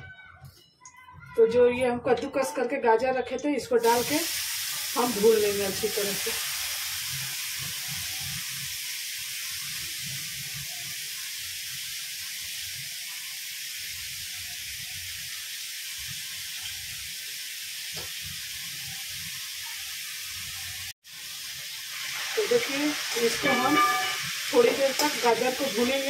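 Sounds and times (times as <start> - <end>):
carrots sizzling in hot fat: 3.8 - 26.0.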